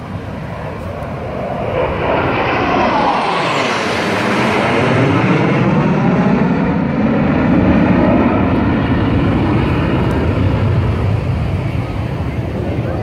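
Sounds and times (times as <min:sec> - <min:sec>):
fighter jets roaring overhead: 0:00.0 - 0:13.0.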